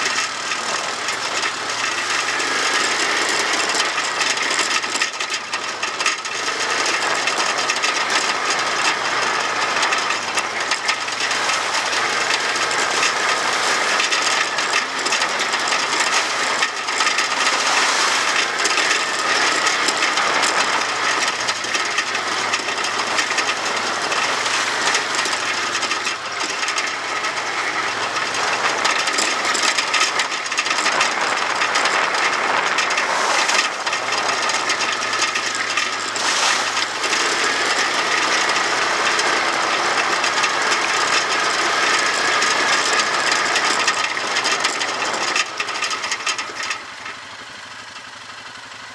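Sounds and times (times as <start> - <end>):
atv engine running: 0.0 - 48.9
rattling clatter over bumps: 0.0 - 48.9.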